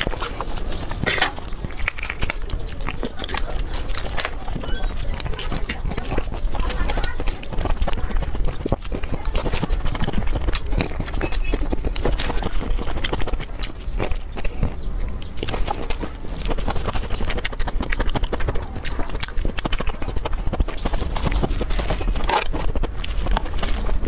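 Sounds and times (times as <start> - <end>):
rapid wet chewing: 0.0 - 24.0.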